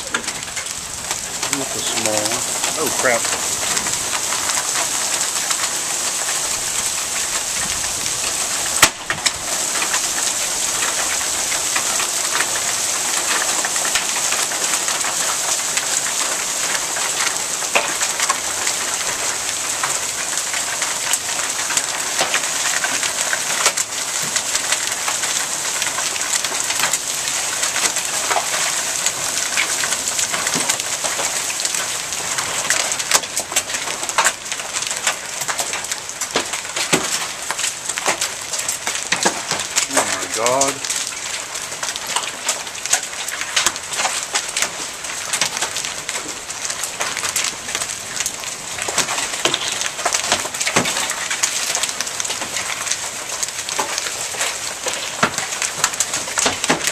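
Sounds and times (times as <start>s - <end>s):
hailstones ticking: 0.0s - 56.9s
rain and hail pattering: 0.0s - 56.9s.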